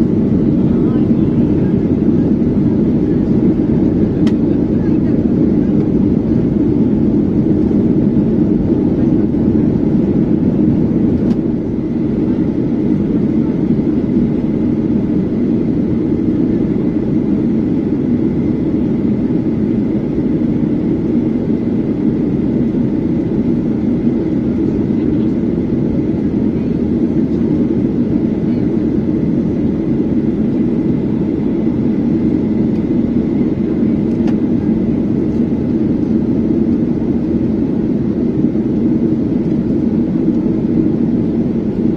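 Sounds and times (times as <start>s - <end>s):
airplane cabin roar: 0.0s - 41.9s.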